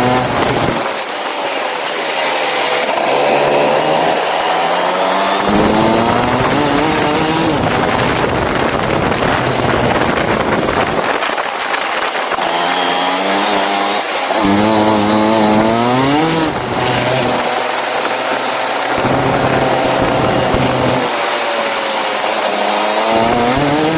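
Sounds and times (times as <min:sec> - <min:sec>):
go-kart engine running hard: 0:00.0 - 0:23.9.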